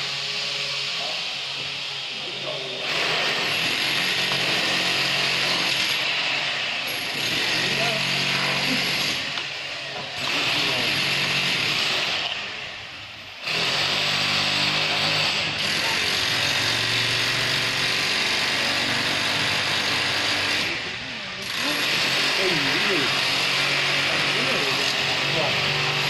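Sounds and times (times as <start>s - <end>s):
power tool whining: 0.0s - 26.0s.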